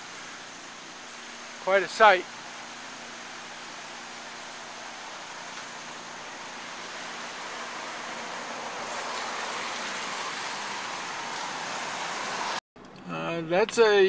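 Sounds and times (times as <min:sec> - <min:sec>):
floodwater rushing: 0:00.0 - 0:12.6.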